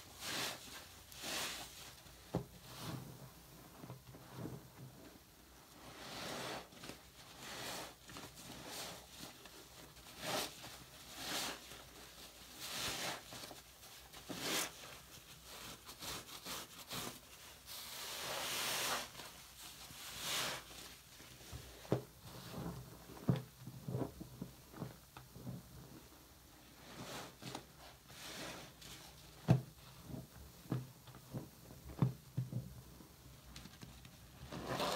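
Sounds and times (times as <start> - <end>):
sponge squishing in water: 0.1 - 33.2.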